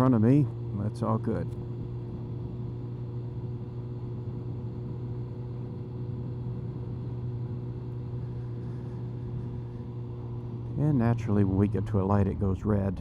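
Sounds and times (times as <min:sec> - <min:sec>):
muffled motorcycle engine drone: 0:00.0 - 0:13.0
road and wind noise: 0:00.0 - 0:13.0.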